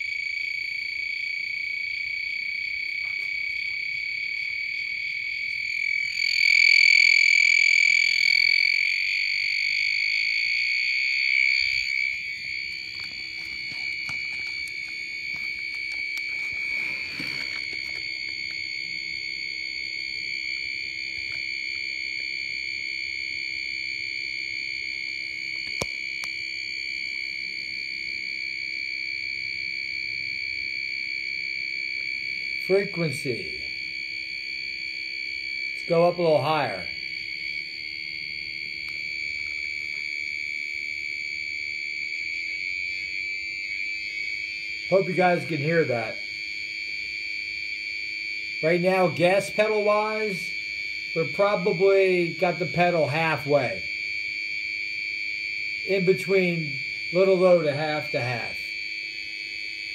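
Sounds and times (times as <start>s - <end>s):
piezo beeper tone: 0.0s - 27.0s, 31.8s - 59.9s.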